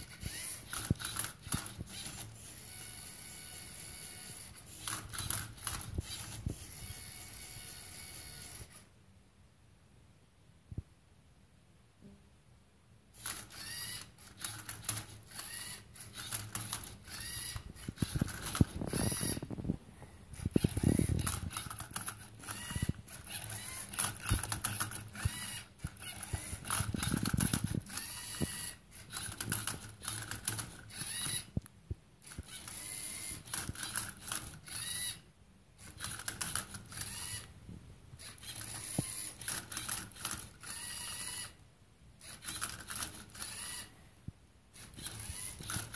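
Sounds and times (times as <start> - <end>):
servo motors whirring: 0.0 - 8.9, 13.2 - 31.6, 32.2 - 35.2, 35.8 - 37.6, 38.2 - 41.6, 42.2 - 44.0, 44.7 - 45.9.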